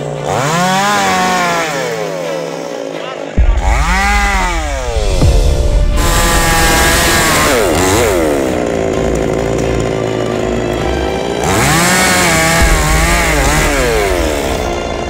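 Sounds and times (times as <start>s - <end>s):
chainsaw cutting tree trunk: 0.0s - 15.0s.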